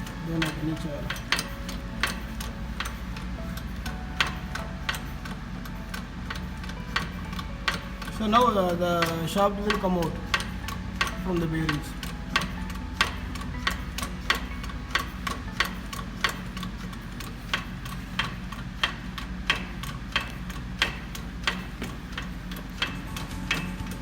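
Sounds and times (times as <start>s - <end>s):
sharp metallic clicks: 0.0s - 24.0s
steady low hum: 0.0s - 24.0s.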